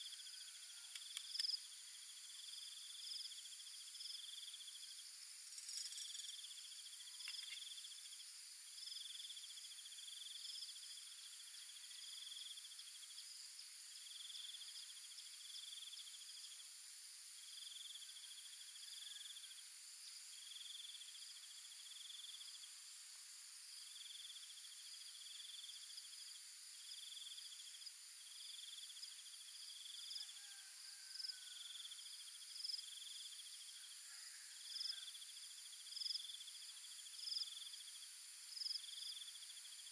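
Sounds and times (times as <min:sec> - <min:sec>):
high-pitched insect hum: 0:00.0 - 0:39.9.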